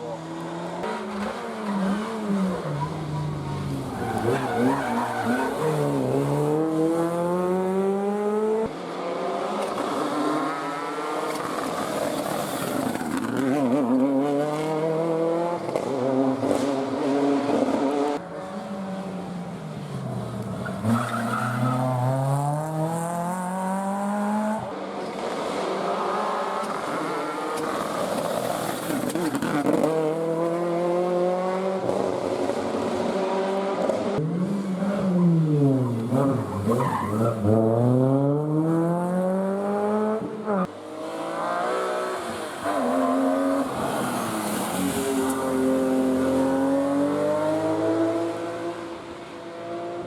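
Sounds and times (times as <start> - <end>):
rally cars at full throttle: 0.0 - 50.0.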